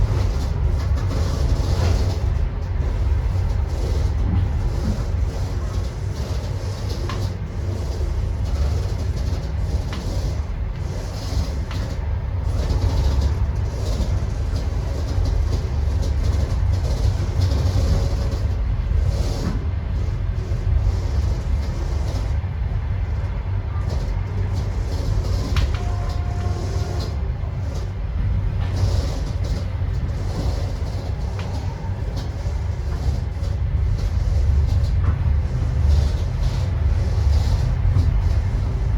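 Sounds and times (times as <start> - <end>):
train running on rails: 0.0 - 38.9.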